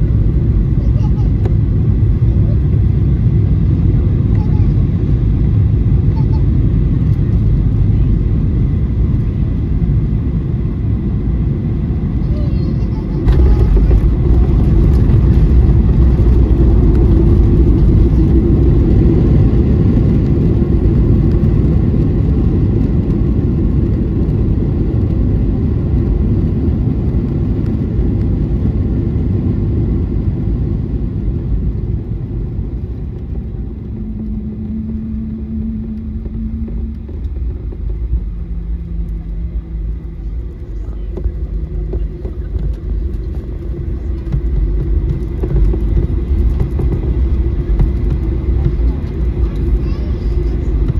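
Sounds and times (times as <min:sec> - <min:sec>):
engine and wheel rumble: 0:00.0 - 0:50.9
low steady hum: 0:00.0 - 0:50.9.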